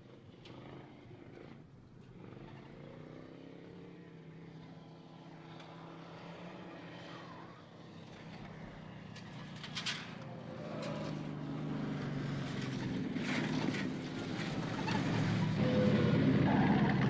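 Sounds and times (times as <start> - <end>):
distant car engine drone: 0.0 - 17.0.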